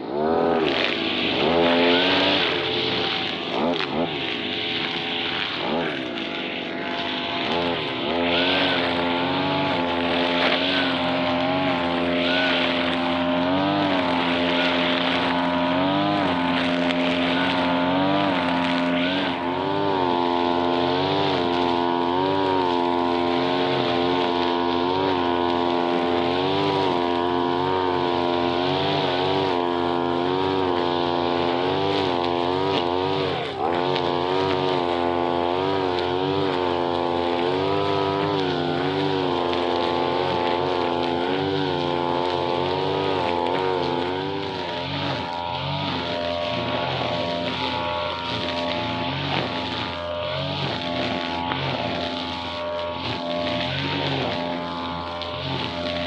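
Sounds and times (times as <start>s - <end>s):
brush cutter engine revving: 0.0s - 56.0s.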